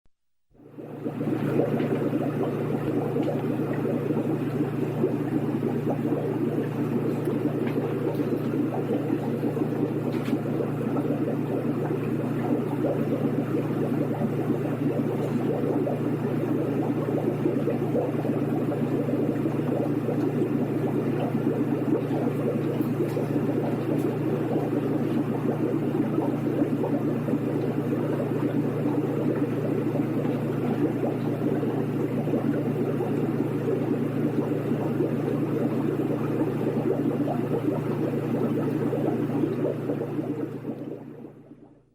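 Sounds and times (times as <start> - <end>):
air pump humming: 0.5 - 41.6
bubbling water: 0.6 - 41.9.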